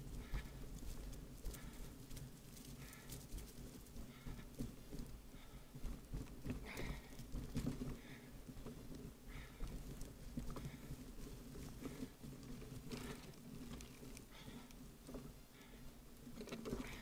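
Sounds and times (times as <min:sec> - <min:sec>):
bicycle rattles and knocks: 0:00.0 - 0:17.0
bicycle rumbling on dirt track: 0:00.0 - 0:17.0.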